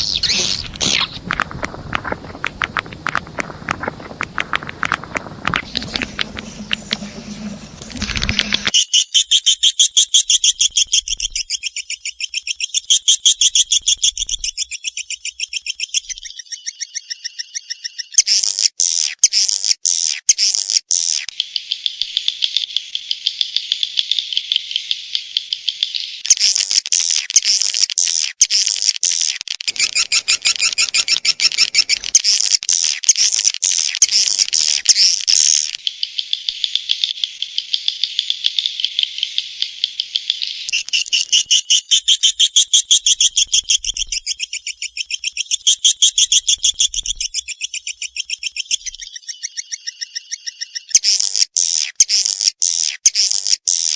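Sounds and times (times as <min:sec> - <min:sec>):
rapid high twittering chirps: 0:00.0 - 0:18.7, 0:21.3 - 0:27.3, 0:29.7 - 0:52.4.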